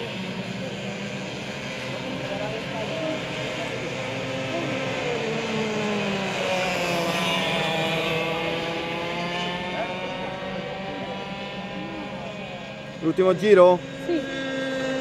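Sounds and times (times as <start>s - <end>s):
kart engines racing: 0.0s - 15.0s.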